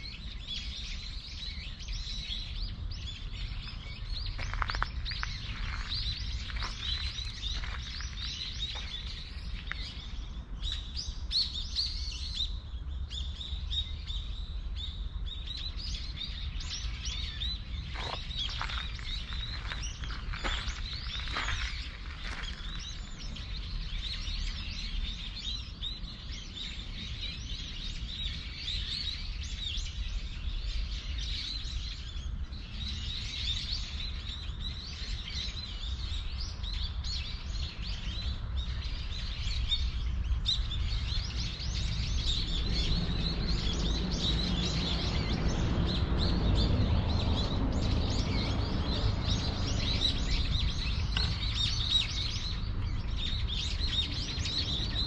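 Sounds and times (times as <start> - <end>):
small birds chirping: 0.0 - 55.0
low outdoor rumble: 0.1 - 33.4, 35.8 - 55.0.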